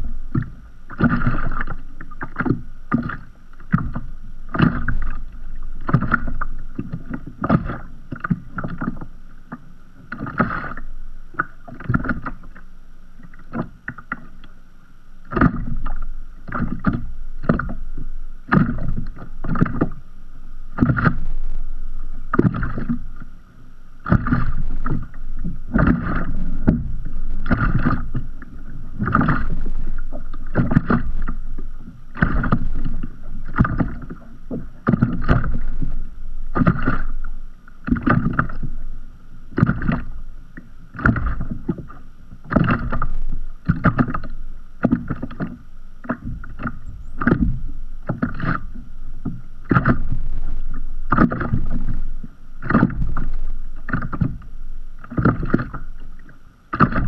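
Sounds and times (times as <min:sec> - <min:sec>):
water lapping against kayak hull: 0:00.0 - 0:57.0.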